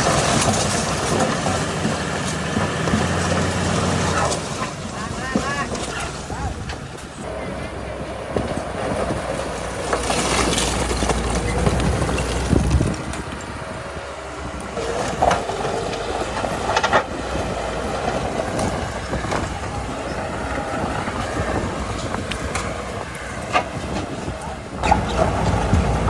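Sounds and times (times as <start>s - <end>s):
bulldozer diesel engine: 0.0s - 26.0s
deep rumble: 0.0s - 26.0s
steel tracks clanking: 0.0s - 26.0s.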